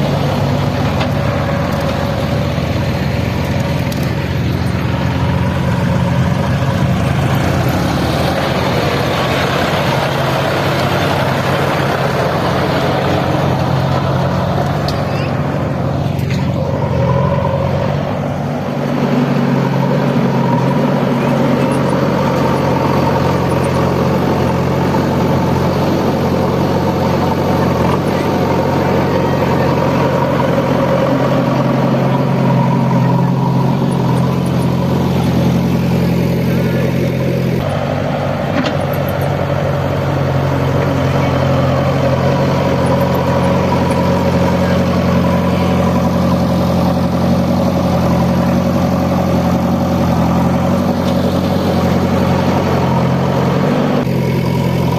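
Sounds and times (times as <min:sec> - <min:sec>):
heavy machine engine running: 0:00.0 - 0:54.9.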